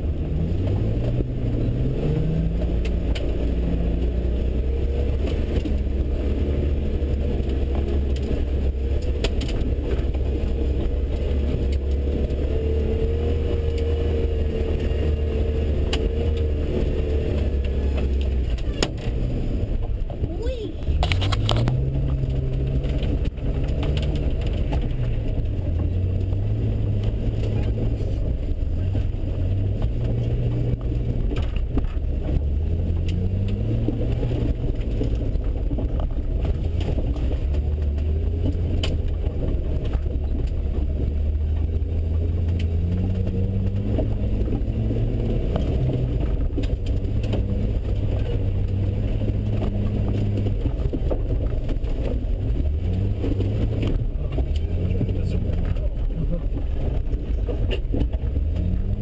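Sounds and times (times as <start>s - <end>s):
car engine running at low revs: 0.0s - 59.0s.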